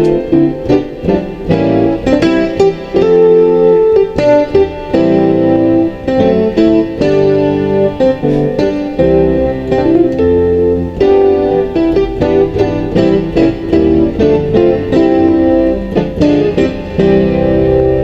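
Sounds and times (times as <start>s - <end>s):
piano playing chords: 0.0s - 18.0s.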